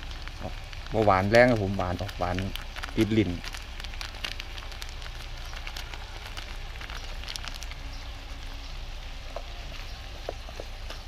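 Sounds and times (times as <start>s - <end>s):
light crackling: 0.0s - 11.0s
stir-fry sizzling in a wok: 0.0s - 11.0s.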